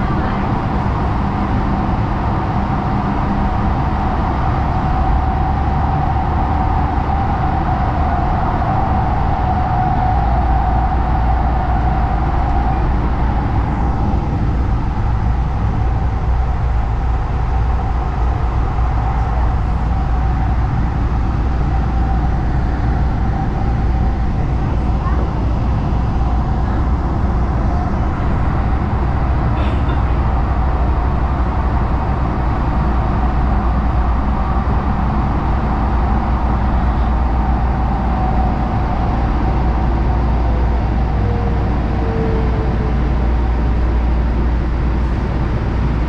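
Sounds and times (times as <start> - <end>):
steady whine: 0.0 - 46.0
train wheels rumbling on track: 0.0 - 46.0.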